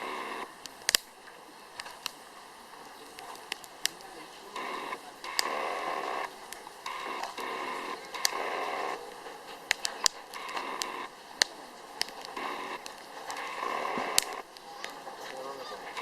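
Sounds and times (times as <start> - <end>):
fire hissing: 0.0 - 16.0
logs popping: 0.0 - 16.0
wood fire crackling: 0.0 - 16.0.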